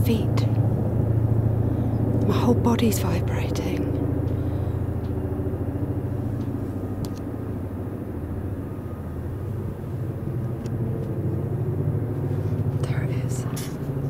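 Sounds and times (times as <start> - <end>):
helicopter rotor beat: 0.0 - 14.0.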